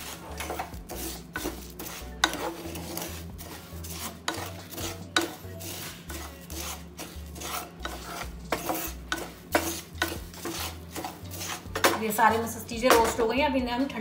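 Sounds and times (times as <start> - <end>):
wooden spatula scraping pan: 0.0 - 13.3
spatula knocking on pan: 0.4 - 12.2, 12.8 - 13.3.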